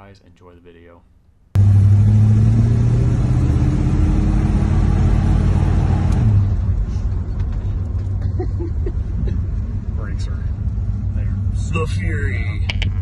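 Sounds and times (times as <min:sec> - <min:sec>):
car engine pulling: 0:01.6 - 0:13.0
wind and road noise: 0:01.6 - 0:13.0.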